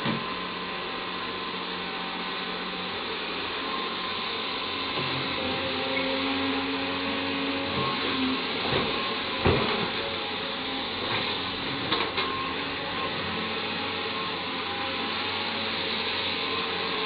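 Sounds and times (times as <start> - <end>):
excavator engine and hydraulic drone: 0.0 - 17.0.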